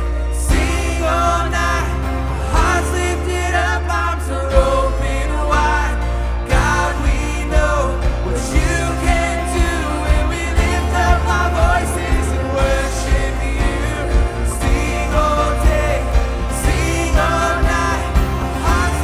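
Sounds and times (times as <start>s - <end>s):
drums: 0.0s - 3.5s, 4.5s - 19.0s
bass guitar: 0.0s - 19.0s
guitars: 0.0s - 19.0s
keyboards: 0.0s - 19.0s
people singing: 0.0s - 19.0s.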